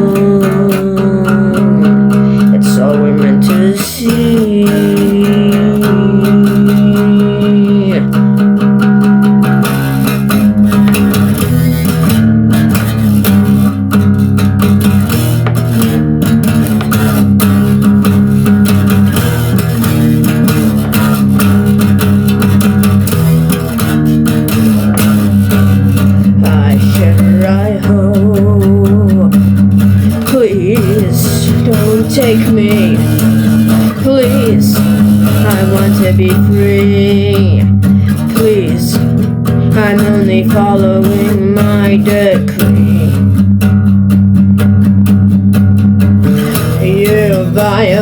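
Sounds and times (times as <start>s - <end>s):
bass guitar: 0.0s - 48.0s
guitar: 0.0s - 48.0s.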